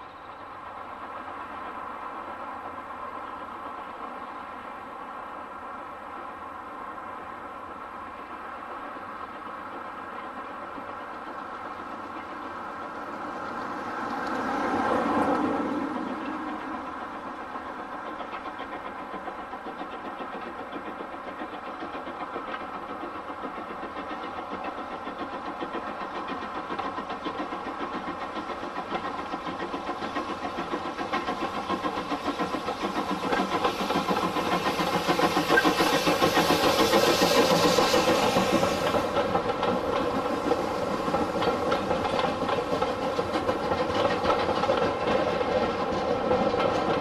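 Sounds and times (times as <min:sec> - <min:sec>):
steam locomotive exhaust beating: 0:07.7 - 0:47.0.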